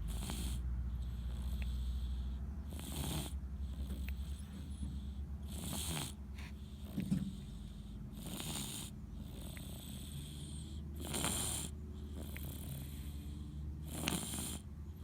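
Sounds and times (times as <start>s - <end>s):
slow snoring: 0.0s - 14.7s.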